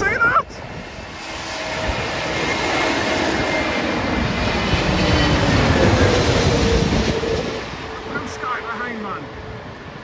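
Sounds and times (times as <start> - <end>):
jet airliner engine roar: 0.0 - 10.0
jet engine whine: 0.0 - 10.0.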